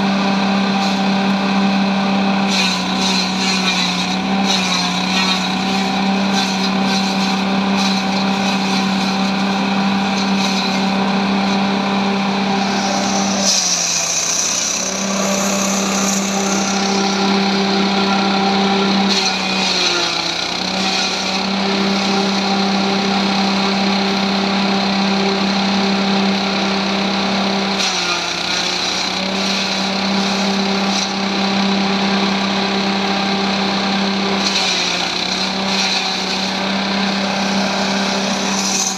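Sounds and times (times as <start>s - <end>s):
grass chopper machine hum: 0.0s - 38.9s.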